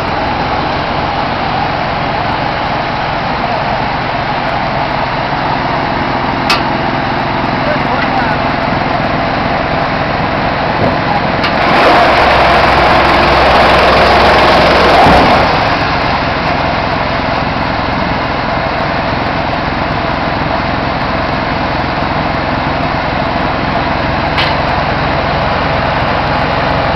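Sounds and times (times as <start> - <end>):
wood chipper running: 0.0 - 26.9.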